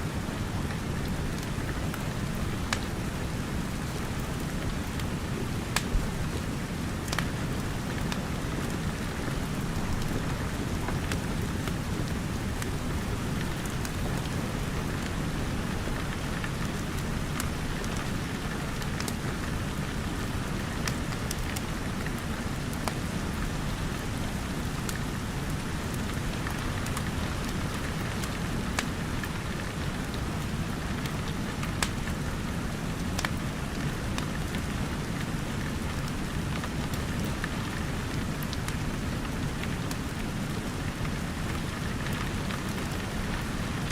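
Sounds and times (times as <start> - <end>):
rain pattering: 0.0 - 43.9
wood fire crackling: 0.0 - 43.9.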